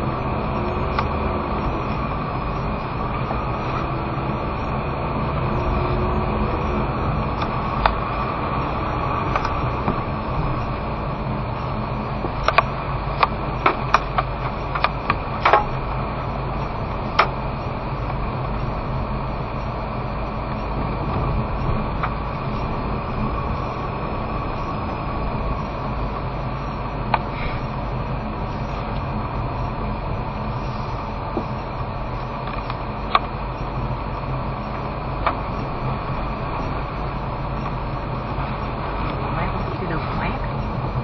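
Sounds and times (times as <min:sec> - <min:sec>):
car engine and tyre noise: 0:00.0 - 0:41.0.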